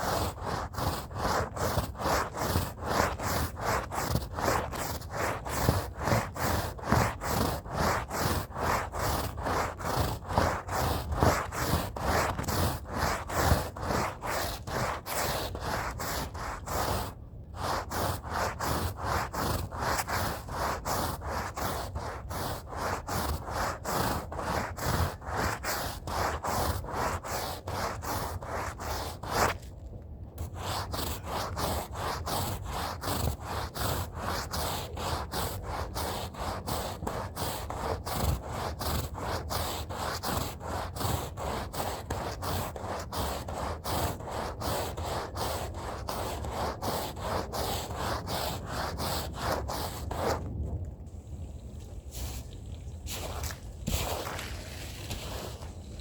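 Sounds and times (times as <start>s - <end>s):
scrub brush scrubbing rug: 0.0s - 29.5s, 30.4s - 50.4s, 53.1s - 55.7s.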